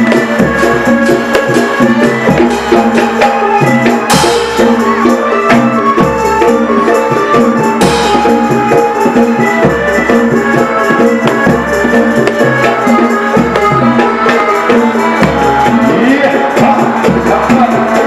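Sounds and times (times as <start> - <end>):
loud music with drums and percussion: 0.0 - 18.0.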